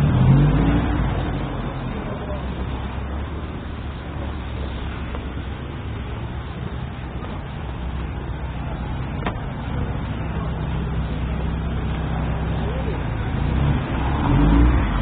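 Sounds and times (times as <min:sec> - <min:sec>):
low engine rumble: 0:00.0 - 0:15.0
street noise: 0:00.0 - 0:15.0.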